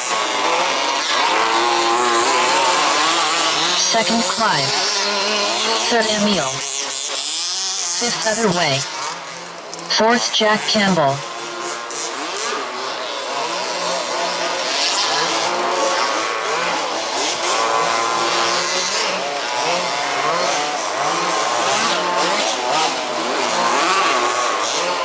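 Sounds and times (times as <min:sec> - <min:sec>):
two-stroke rc car engines racing: 0:00.0 - 0:25.0.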